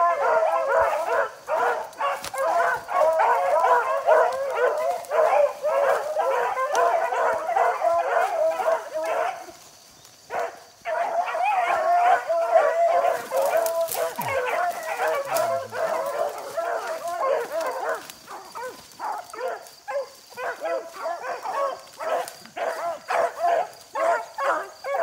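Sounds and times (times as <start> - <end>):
dogs baying: 0.0 - 9.6, 10.3 - 25.0.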